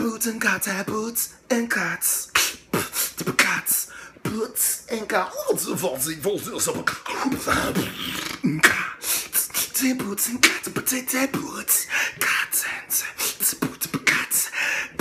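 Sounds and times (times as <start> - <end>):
man beatboxing: 0.0 - 15.0.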